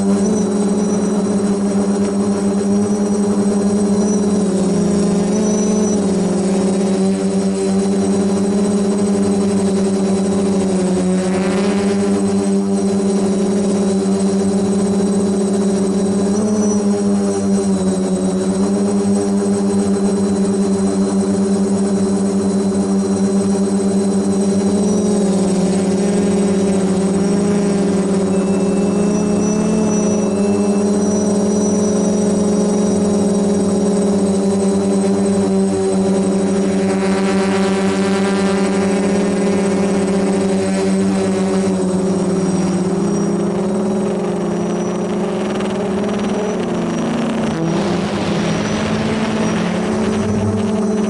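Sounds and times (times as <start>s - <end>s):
drone propellers humming: 0.0s - 51.0s.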